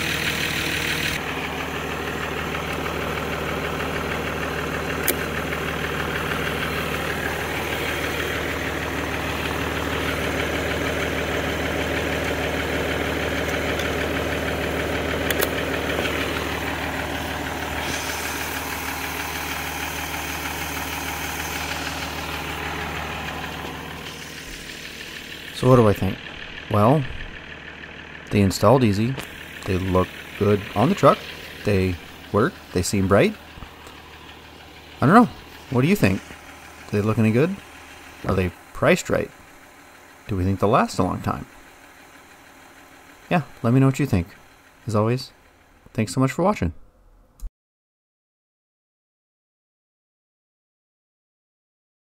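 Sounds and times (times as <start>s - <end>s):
diesel engine idling: 0.0s - 46.3s.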